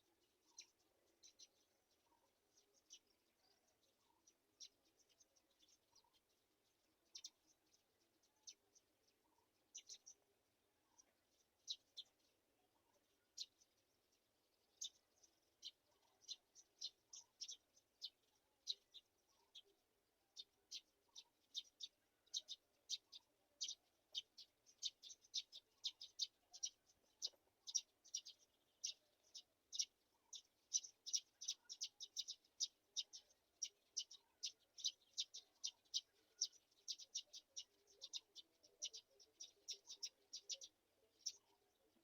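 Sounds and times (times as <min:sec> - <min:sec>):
bird chicks chirping: 0:07.0 - 0:42.0.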